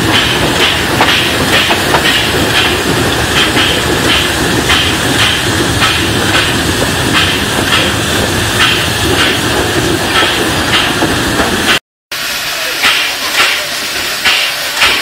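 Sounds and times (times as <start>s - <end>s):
steam hissing in bursts: 0.0s - 15.0s
steam locomotive rumbling: 0.0s - 15.0s.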